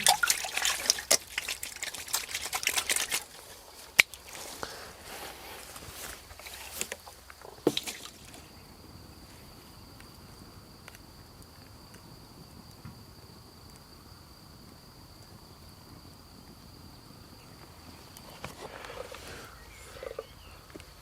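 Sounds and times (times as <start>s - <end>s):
insect trilling: 0.0s - 12.6s, 16.6s - 21.0s.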